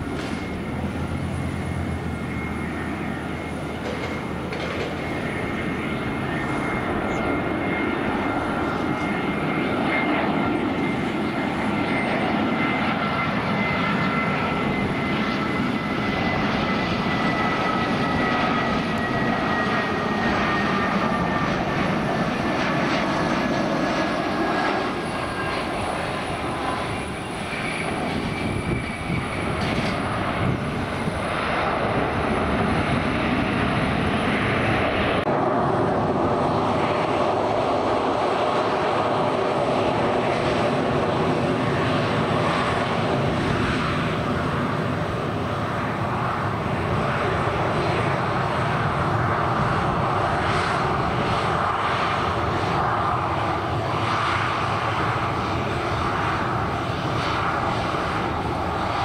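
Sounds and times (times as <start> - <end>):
airliner engines whining: 0.0 - 59.0.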